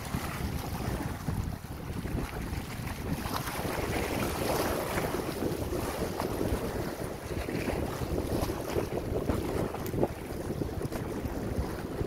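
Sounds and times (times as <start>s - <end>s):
sea waves splashing over rocks: 0.0s - 12.0s
wind buffeting microphone: 0.0s - 12.0s.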